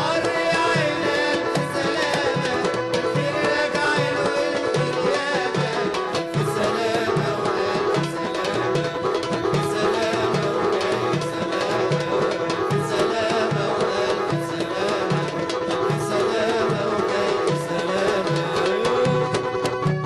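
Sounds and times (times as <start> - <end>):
hand drum ensemble: 0.0 - 20.0.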